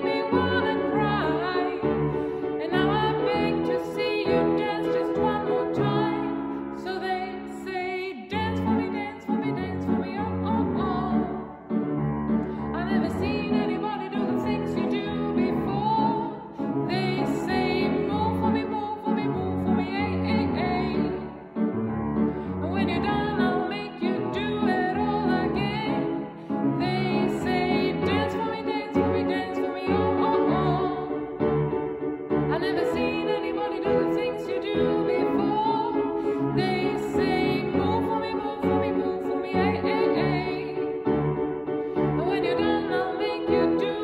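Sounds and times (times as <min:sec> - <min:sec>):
woman singing operatically: 0:00.0 - 0:01.9, 0:02.6 - 0:11.4, 0:12.8 - 0:21.1, 0:22.6 - 0:25.9, 0:26.8 - 0:31.1, 0:32.5 - 0:40.8, 0:42.2 - 0:44.0
grand piano accompaniment: 0:00.0 - 0:44.0.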